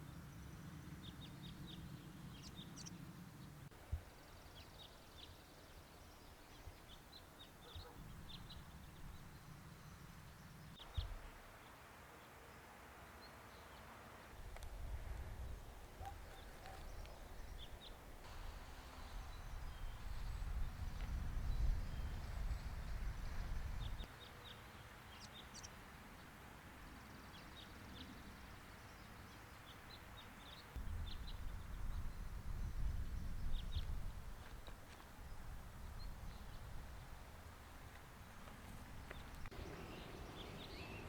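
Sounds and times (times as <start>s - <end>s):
small birds chirping: 0.0s - 14.5s, 15.4s - 41.0s.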